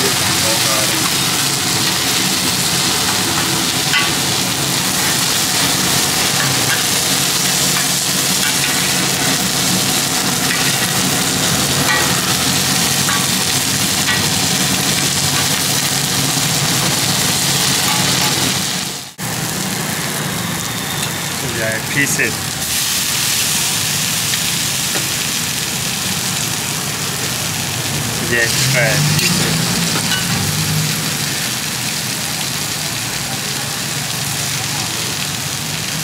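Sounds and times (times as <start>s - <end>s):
egg sizzling in a frying pan: 0.0s - 36.0s.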